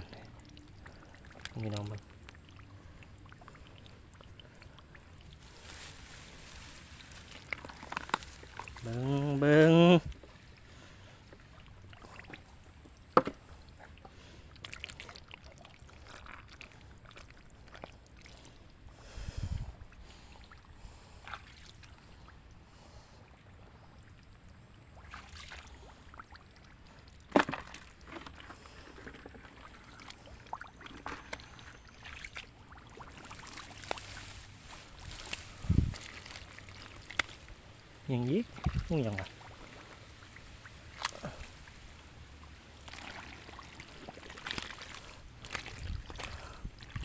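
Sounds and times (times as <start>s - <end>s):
muddy water sloshing and splashing: 0.0s - 47.0s.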